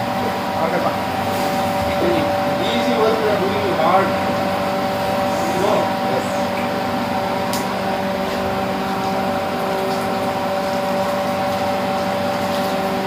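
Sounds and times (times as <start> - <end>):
electric machinery hum: 0.0 - 13.0.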